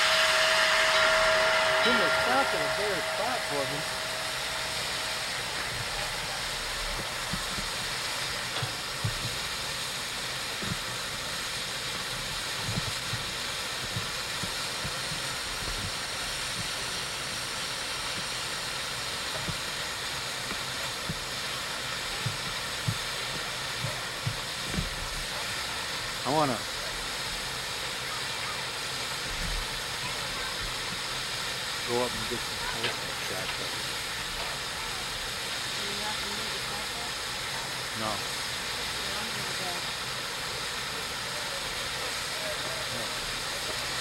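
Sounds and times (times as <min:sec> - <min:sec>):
steam hissing: 0:00.0 - 0:44.0.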